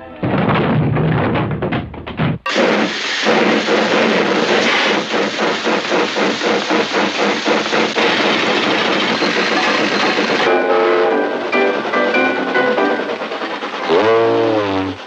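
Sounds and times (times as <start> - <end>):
steam train chugging: 2.5 - 15.0.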